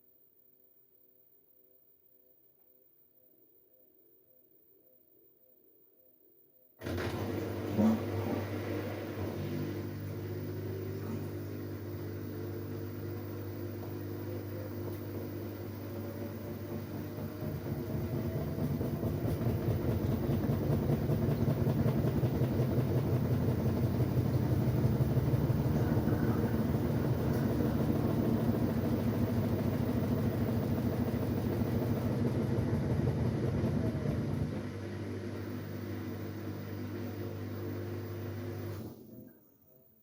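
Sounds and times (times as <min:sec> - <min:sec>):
washing machine running: 0:06.8 - 0:39.3.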